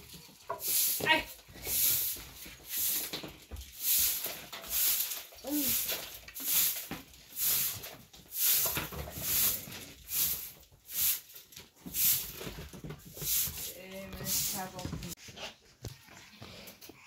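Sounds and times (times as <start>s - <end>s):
broom sweeping floor: 0.0s - 16.0s.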